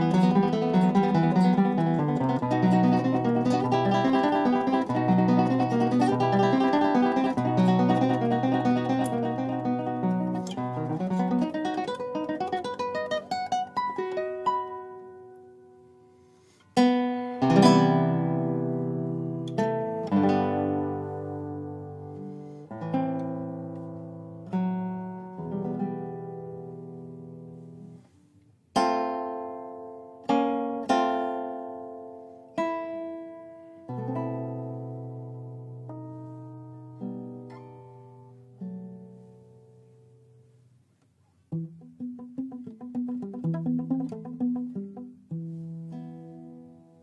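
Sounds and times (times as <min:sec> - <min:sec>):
acoustic guitar music: 0:00.0 - 0:47.0.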